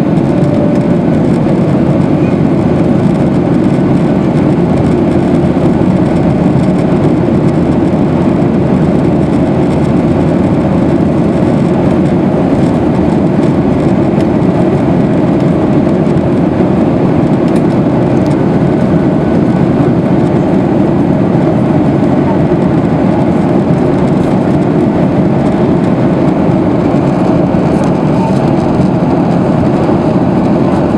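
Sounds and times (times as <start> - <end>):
airplane cabin roar: 0.0 - 30.9.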